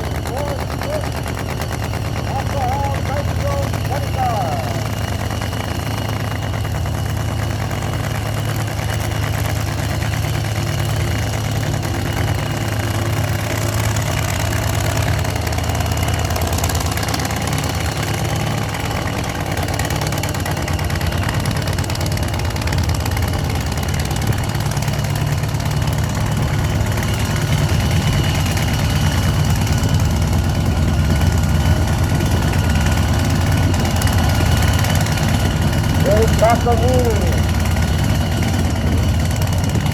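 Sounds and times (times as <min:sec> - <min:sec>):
drag car engine idling: 0:00.0 - 0:39.9.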